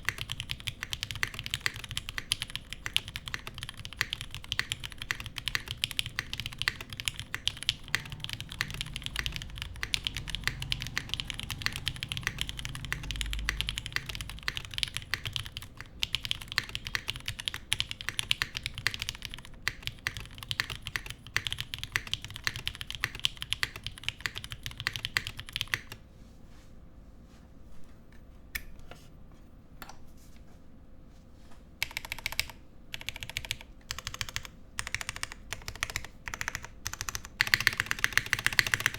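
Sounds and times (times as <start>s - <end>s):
mechanical keyboard typing: 0.0s - 26.0s, 31.8s - 38.9s.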